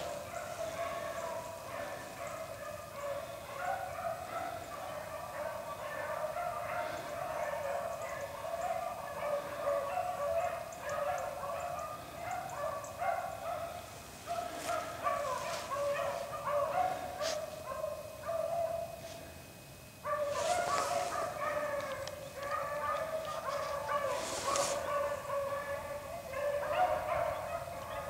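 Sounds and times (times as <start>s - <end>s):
dogs baying: 0.0s - 28.0s.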